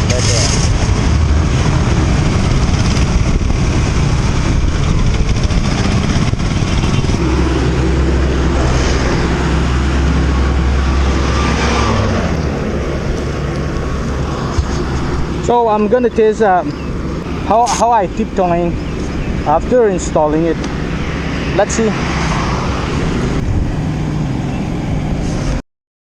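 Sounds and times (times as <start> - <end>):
steady low hum: 0.0 - 22.0
engine running: 0.0 - 25.6.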